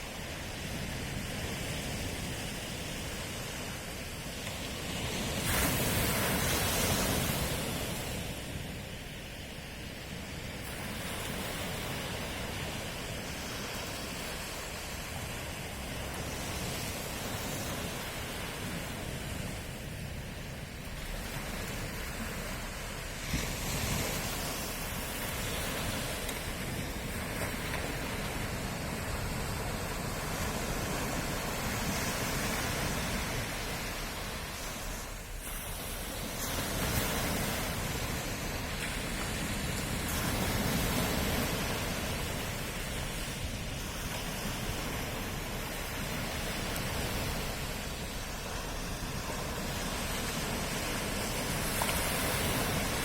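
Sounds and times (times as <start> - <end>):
ocean waves washing onto shore: 0.0 - 53.0.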